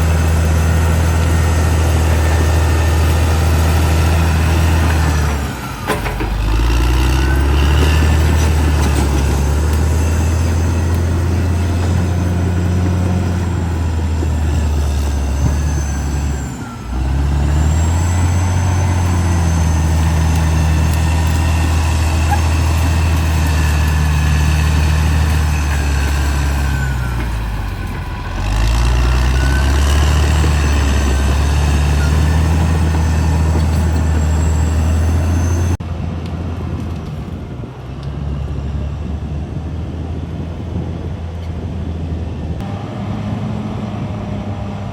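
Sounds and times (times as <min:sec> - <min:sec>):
bulldozer diesel engine: 0:00.0 - 0:44.9.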